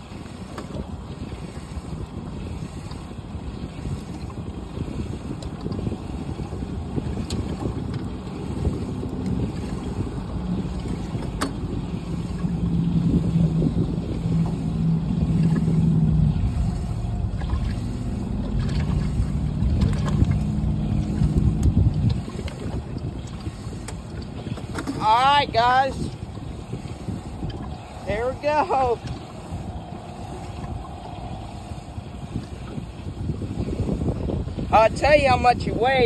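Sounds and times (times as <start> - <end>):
wind buffeting microphone: 0.0 - 36.0
low hum: 5.9 - 35.0.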